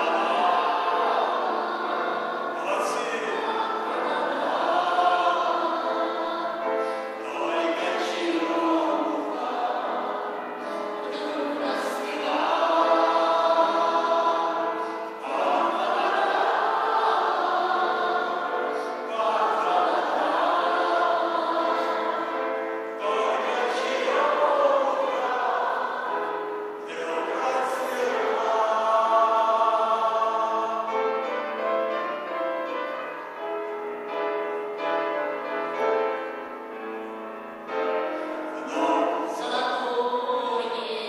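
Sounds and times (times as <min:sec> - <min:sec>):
amplified singing: 0:00.0 - 0:32.3, 0:38.1 - 0:41.0.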